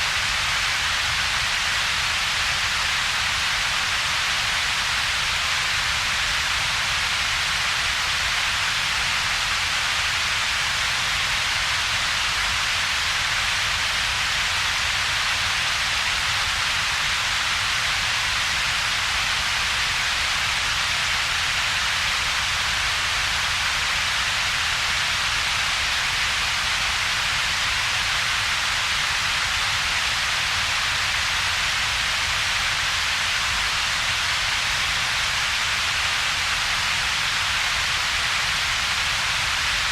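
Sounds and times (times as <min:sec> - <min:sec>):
steady synthetic hiss: 0:00.0 - 0:39.9.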